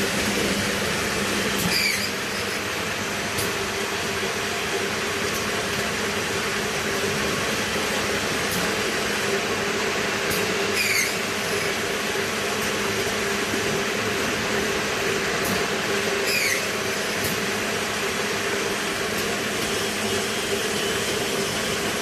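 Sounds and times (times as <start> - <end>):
baking machine mechanical drone: 0.0 - 22.0.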